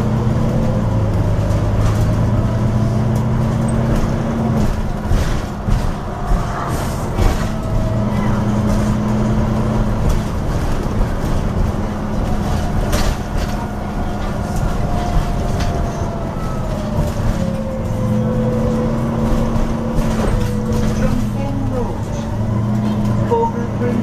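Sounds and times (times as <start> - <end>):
bus engine humming: 0.0 - 24.0.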